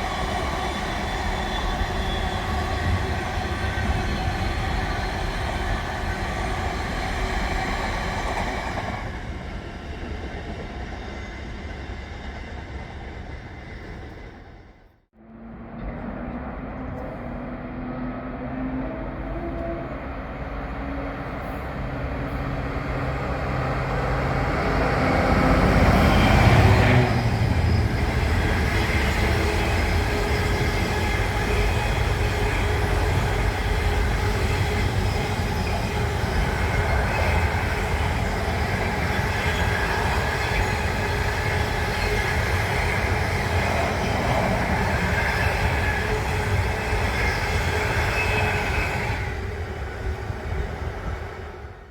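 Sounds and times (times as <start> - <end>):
diesel locomotive engine: 0.0 - 51.9
train wagons rumbling on rails: 0.0 - 51.9.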